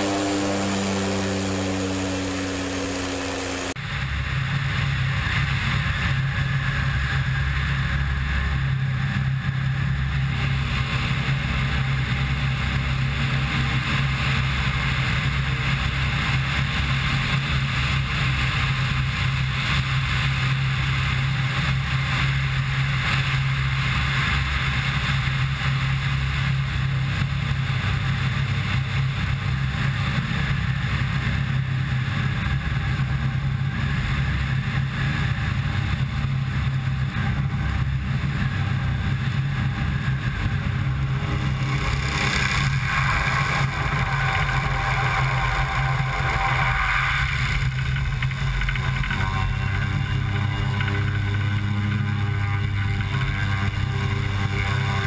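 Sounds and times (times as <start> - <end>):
turboprop engine drone in flight: 0.0 - 55.0.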